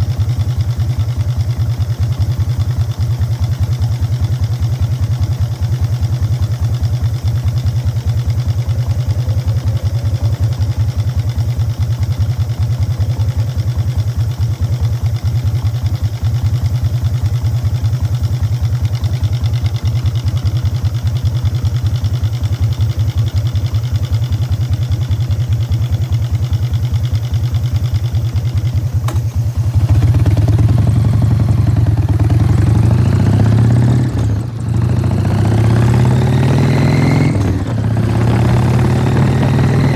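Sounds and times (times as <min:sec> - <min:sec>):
motorcycle exhaust rumbling: 0:00.0 - 0:39.9.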